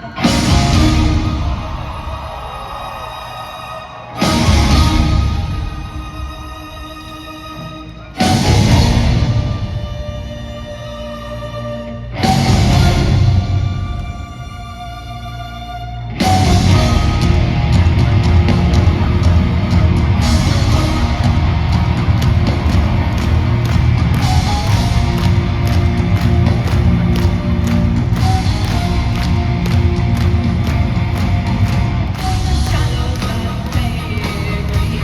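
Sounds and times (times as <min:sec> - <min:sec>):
heavy drumming: 0:00.0 - 0:03.4, 0:04.1 - 0:07.1, 0:08.2 - 0:10.4, 0:12.2 - 0:14.4, 0:16.2 - 0:35.0
metal band and orchestra playing: 0:00.0 - 0:35.0.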